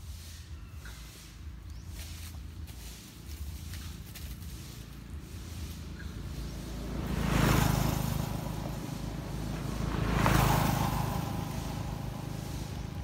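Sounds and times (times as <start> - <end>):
motor vehicles driving past: 0.0 - 13.0.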